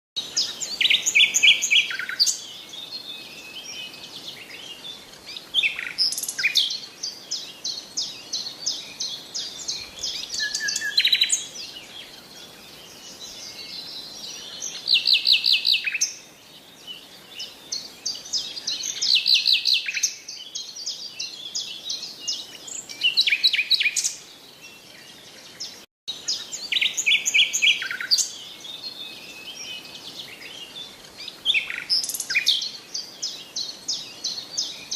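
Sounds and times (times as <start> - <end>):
songbirds singing: 0.2 - 34.9.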